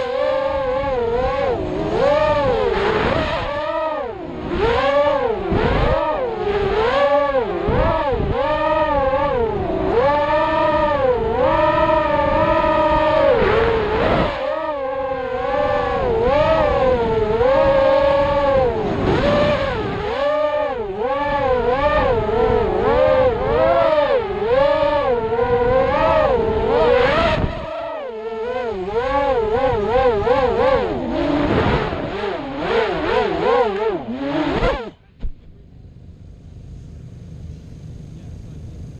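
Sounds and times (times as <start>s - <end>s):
quadcopter motors whining: 0.0s - 35.5s.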